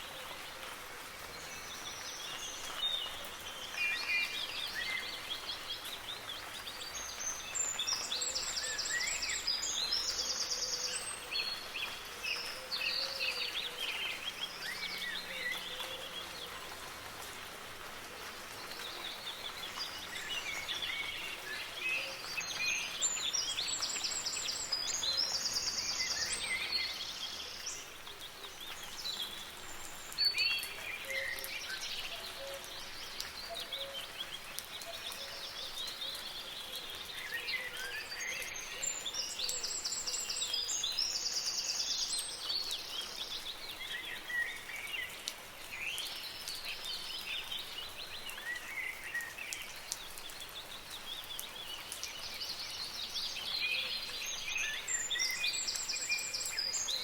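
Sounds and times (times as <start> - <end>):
soft rain hiss: 0.0 - 57.0
songbirds singing and calling: 0.0 - 57.0.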